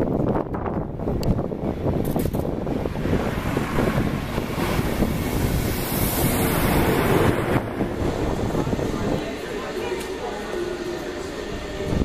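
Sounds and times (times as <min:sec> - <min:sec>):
train wheels rushing on rails: 0:00.1 - 0:12.0.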